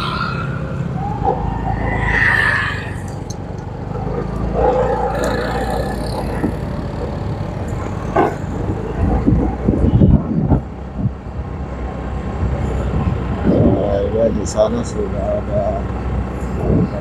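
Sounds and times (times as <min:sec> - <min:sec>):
passing traffic: 0:00.0 - 0:17.0
vehicle engine humming: 0:00.0 - 0:17.0.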